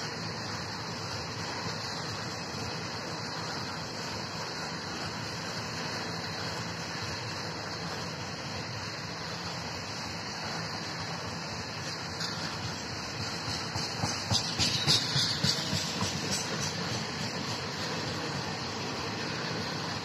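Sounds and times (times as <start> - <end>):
freight train wheels rushing: 0.0 - 20.0.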